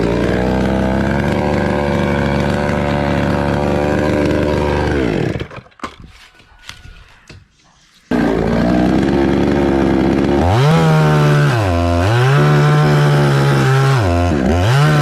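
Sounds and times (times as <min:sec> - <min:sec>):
chainsaw running at high revs: 0:00.0 - 0:05.6, 0:08.1 - 0:15.0.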